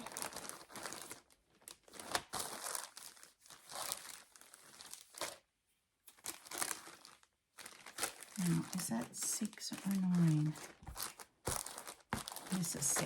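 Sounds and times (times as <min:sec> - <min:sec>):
plastic bags rustling and crinkling: 0:00.0 - 0:13.0.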